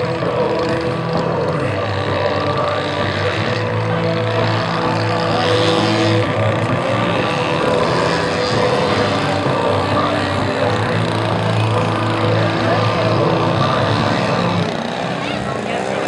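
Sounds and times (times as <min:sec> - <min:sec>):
model plane engine and propeller: 0:00.0 - 0:16.0.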